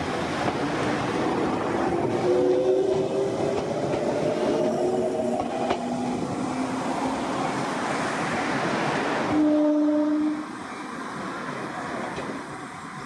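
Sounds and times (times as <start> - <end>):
train wheel and running noise: 0.0 - 13.0.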